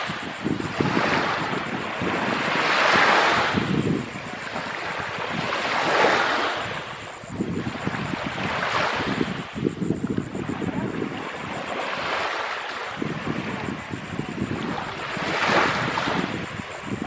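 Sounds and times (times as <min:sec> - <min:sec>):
waves washing in: 0:00.0 - 0:17.0
wind on microphone: 0:00.0 - 0:17.0.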